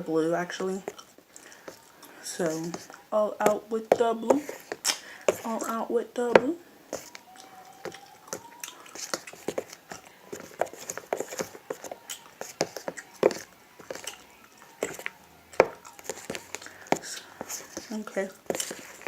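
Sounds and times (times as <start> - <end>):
spoon stirring slime in bowl: 0.7 - 19.0.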